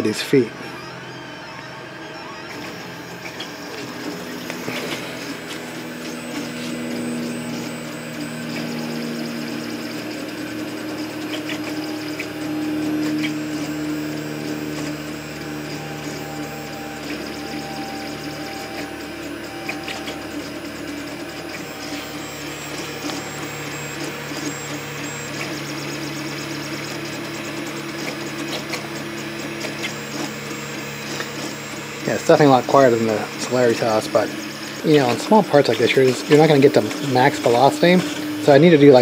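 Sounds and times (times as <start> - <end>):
stepper motors whining: 0.0 - 39.0.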